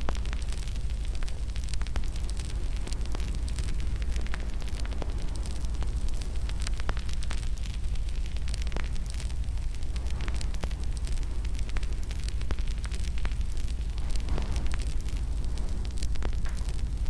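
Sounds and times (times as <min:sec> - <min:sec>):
fire crackling and popping: 0:00.0 - 0:17.0
fire rumbling in a fireplace: 0:00.0 - 0:17.0.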